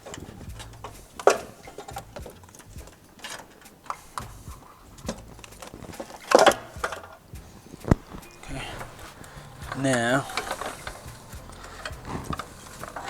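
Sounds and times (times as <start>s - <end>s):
clicks and knocks on car parts: 0.0s - 13.0s.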